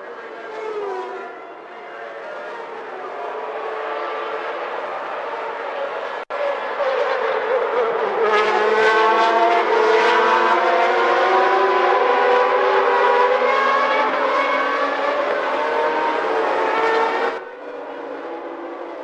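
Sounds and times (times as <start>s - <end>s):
racing car engines at high revs: 0.2s - 19.0s.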